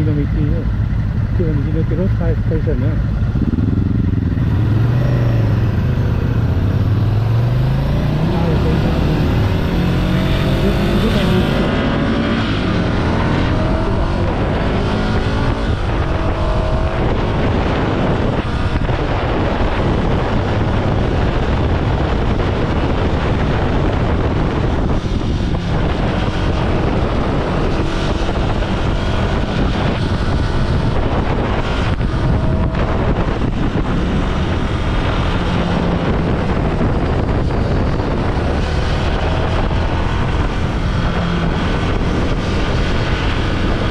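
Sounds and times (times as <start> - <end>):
wind rushing over microphone: 0.0 - 43.9
motorcycle engine upshifting: 3.0 - 43.9.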